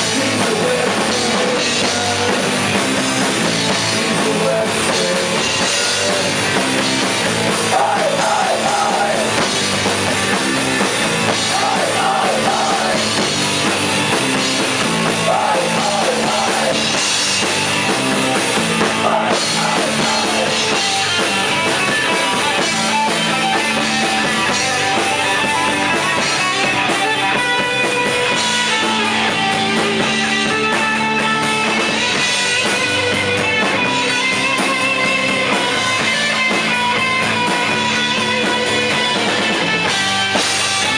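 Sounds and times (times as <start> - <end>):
rock music: 0.0 - 40.9.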